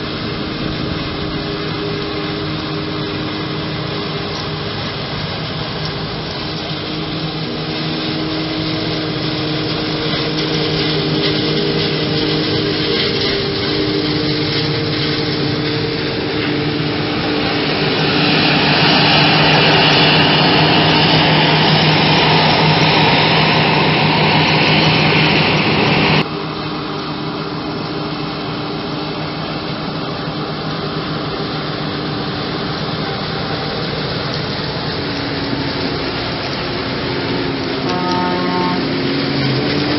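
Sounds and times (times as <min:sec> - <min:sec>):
harvester chopping and blowing: 0:00.0 - 0:39.9
tractor engine hum: 0:00.0 - 0:39.9.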